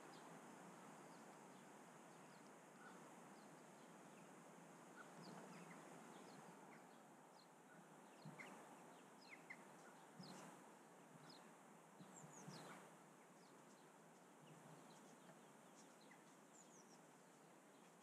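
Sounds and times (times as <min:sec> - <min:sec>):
low steady hiss: 0:00.0 - 0:18.0
small birds chirping: 0:00.0 - 0:18.0.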